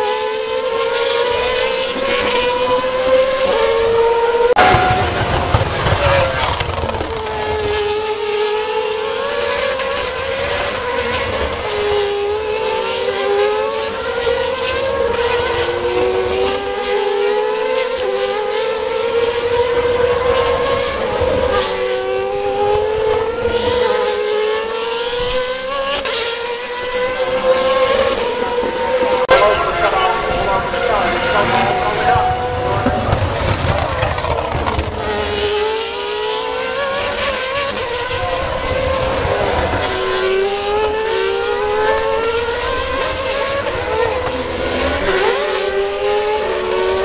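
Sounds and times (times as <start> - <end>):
racing car engines upshifting: 0.0 - 47.0.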